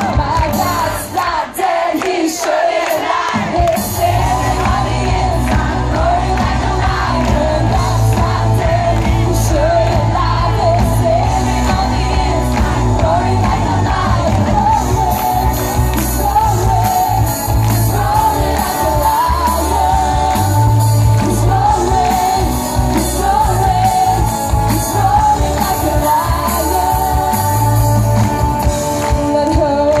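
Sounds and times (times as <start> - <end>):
live band playing: 0.0 - 1.7, 2.9 - 30.0.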